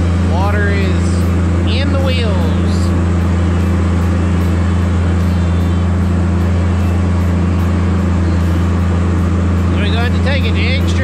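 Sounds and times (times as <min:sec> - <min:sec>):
diesel engine droning: 0:00.0 - 0:11.0
tires churning through water: 0:00.0 - 0:11.0.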